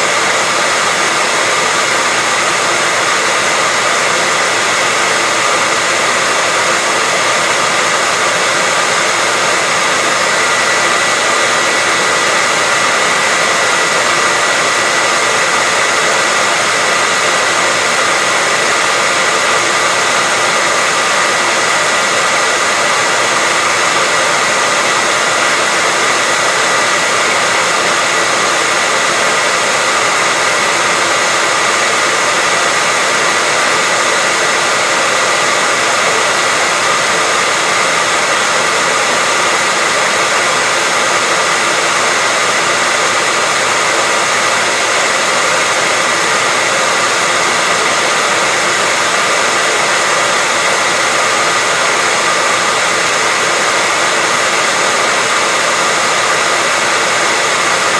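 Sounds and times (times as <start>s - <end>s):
hairdryer running: 0.0s - 57.9s.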